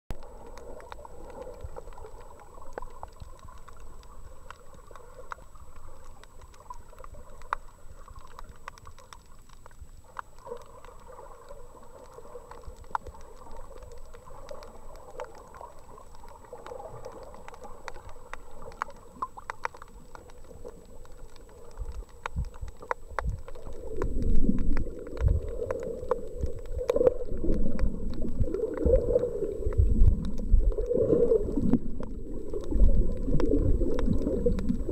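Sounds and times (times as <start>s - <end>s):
faint clicks and crackles: 0.1s - 34.9s
low rumbling of moving water: 0.1s - 34.9s
muffled underwater hiss: 0.1s - 34.9s.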